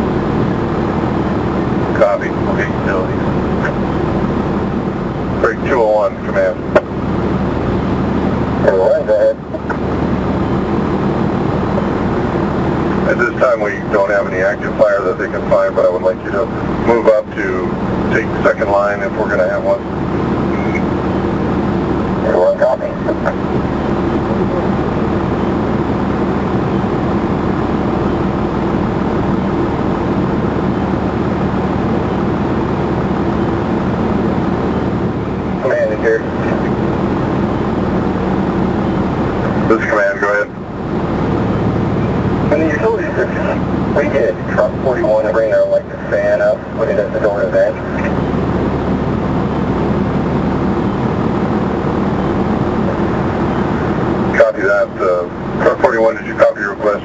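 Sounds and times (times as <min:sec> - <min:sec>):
fire truck engine running: 0:00.0 - 0:57.0.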